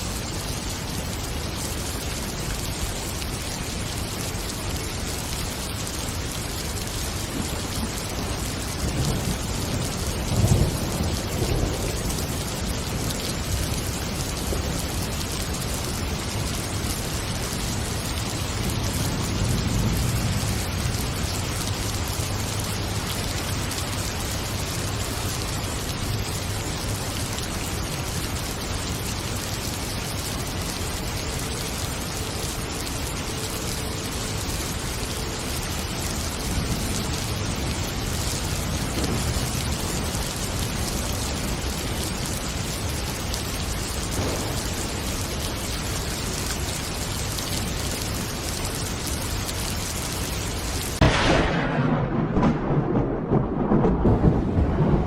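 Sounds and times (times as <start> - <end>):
rain hiss: 0.0 - 55.0
thunder rumbling: 3.9 - 26.8, 30.9 - 55.0.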